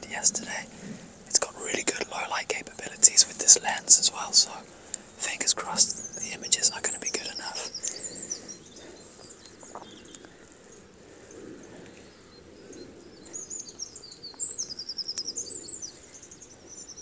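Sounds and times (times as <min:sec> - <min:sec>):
faint background rumble: 0:00.0 - 0:14.5
songbird twittering: 0:00.0 - 0:17.0.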